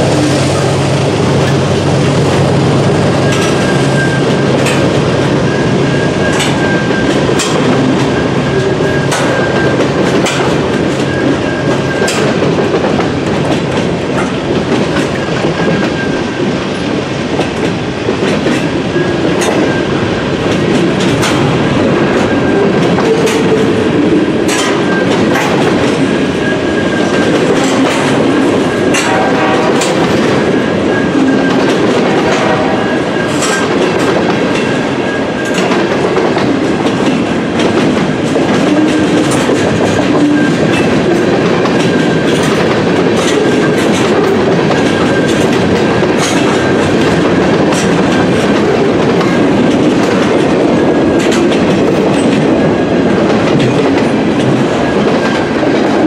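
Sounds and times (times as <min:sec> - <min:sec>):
steel wheels rumbling on rail: 0:00.0 - 0:56.0
wheels clicking over rail joints: 0:03.2 - 0:16.1, 0:17.3 - 0:56.0.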